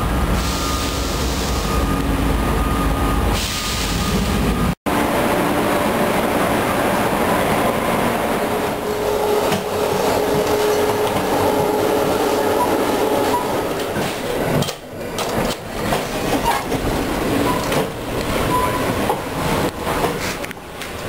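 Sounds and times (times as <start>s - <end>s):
passenger train rumble and hum: 0.0s - 21.0s.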